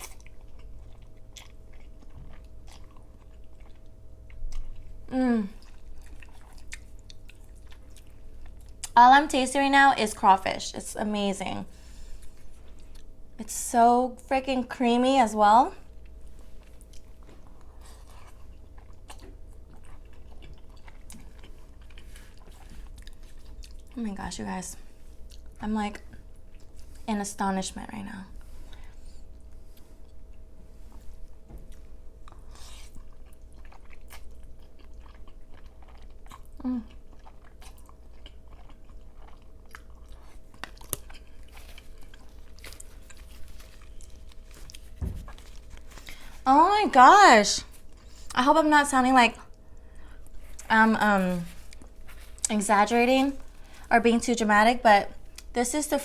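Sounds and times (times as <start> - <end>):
person chewing with wet smacks: 0.0 - 9.0, 12.0 - 13.4, 15.8 - 24.2, 24.8 - 27.1, 28.4 - 53.9, 55.0 - 55.6.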